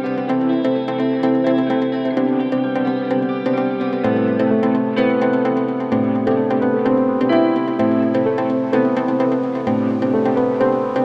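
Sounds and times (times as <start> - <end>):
instrumental music with held chords: 0.0 - 11.0.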